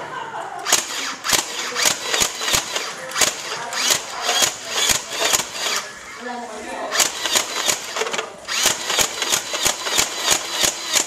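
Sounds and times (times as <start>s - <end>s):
foam dart blaster firing: 0.7s - 5.8s, 7.0s - 11.0s.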